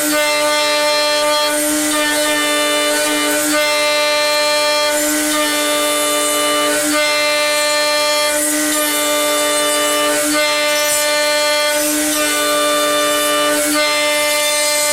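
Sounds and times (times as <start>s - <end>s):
hiss of metal cutting: 0.0s - 14.9s
milling spindle whining: 0.0s - 14.9s.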